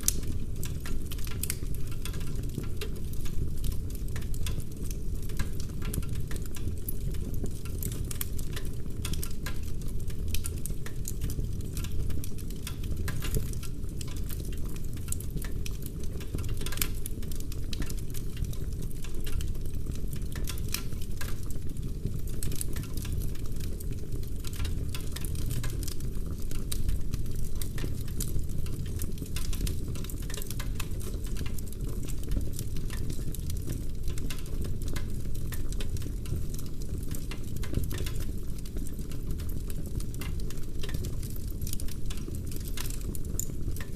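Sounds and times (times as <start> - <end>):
fire low rumble: 0.0 - 43.9
logs crackling and popping: 0.0 - 43.9.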